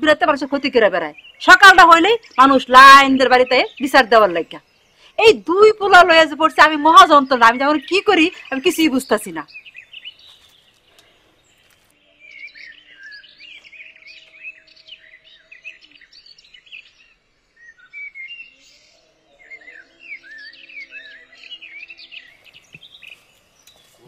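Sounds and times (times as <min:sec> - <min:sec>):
small songbirds chirping: 0:00.0 - 0:24.0.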